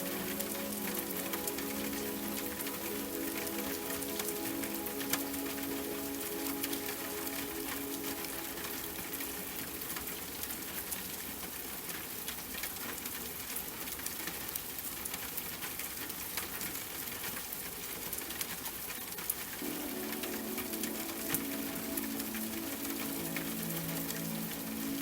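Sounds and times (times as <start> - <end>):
rain falling steadily: 0.0 - 25.0.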